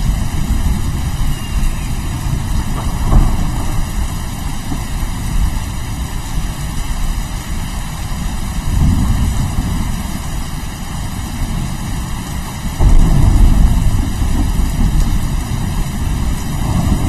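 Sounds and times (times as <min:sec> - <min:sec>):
low thunder rumble: 0:00.0 - 0:17.0
steady rain: 0:00.0 - 0:17.0.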